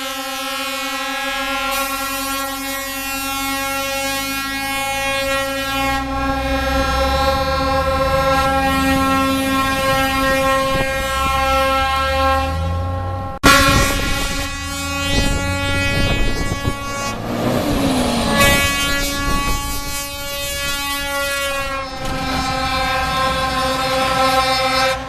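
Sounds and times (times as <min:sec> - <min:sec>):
multi-tone truck air horns: 0:00.0 - 0:25.0.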